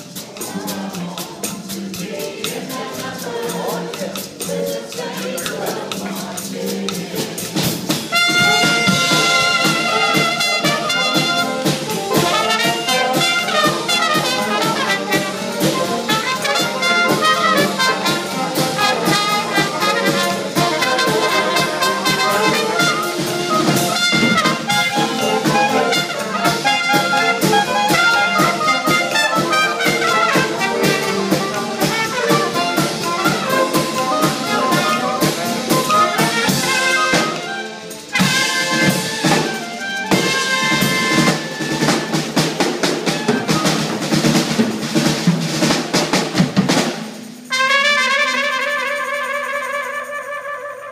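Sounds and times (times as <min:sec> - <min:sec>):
brass and saxophones playing jazz: 0:00.0 - 0:50.9
drum kit: 0:00.0 - 0:50.9.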